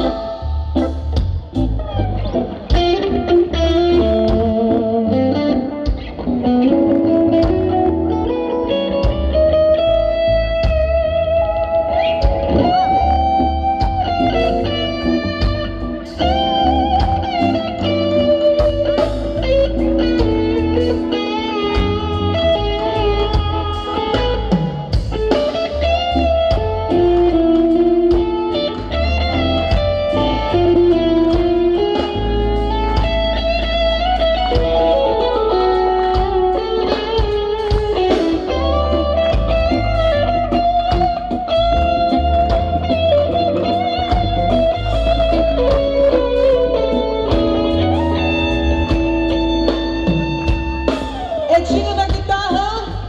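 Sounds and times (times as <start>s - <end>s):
electric guitar: 0.0s - 53.0s
live band playing soul music: 0.0s - 53.0s.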